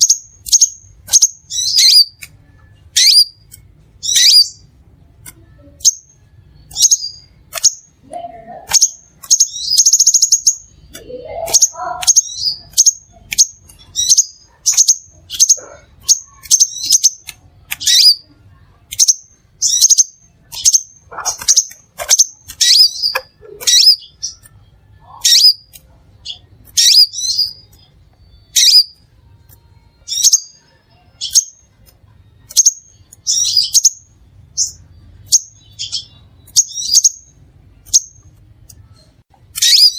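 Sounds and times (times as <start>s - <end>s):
bird chirping: 0.0s - 39.9s
buzzy bird trill: 0.0s - 39.9s.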